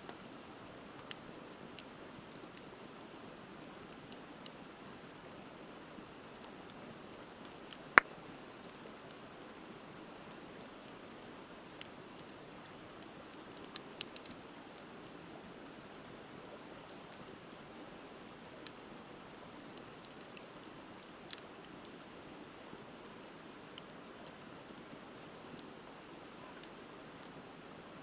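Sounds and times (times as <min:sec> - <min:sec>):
campfire crackling and popping: 0:00.1 - 0:27.8.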